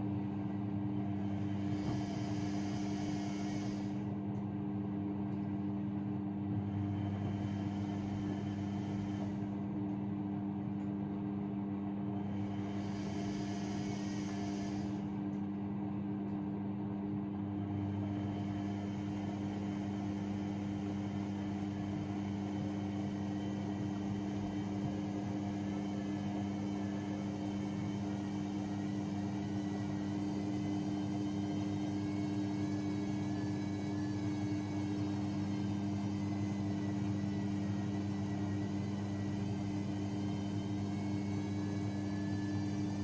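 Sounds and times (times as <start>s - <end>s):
washing machine motor hum: 0.0s - 43.0s.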